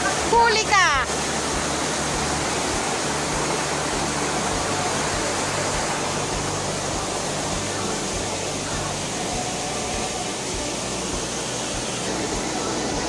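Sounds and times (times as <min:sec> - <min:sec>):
stream water rushing over rocks: 0:00.0 - 0:13.0.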